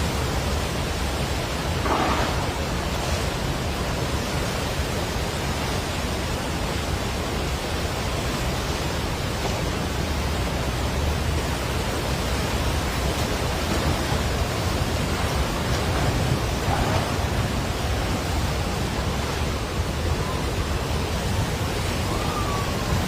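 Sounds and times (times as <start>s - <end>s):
turbulent river water rushing: 0.0s - 23.0s.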